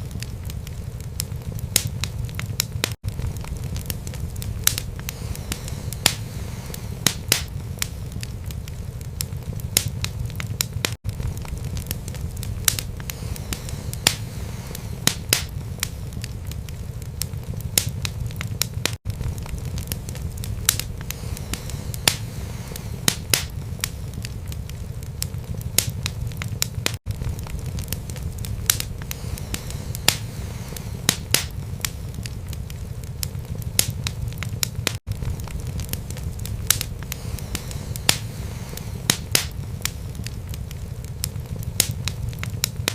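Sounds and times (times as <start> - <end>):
low rumble of flames: 0.0 - 42.9
wood crackling and popping: 0.0 - 42.9.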